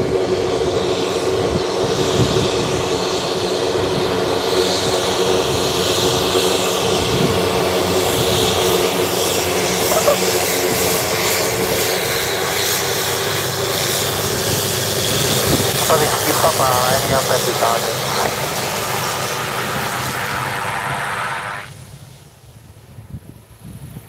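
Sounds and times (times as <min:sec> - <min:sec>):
high turbine whine: 0:00.0 - 0:23.0
propeller plane engine drone: 0:00.0 - 0:24.0.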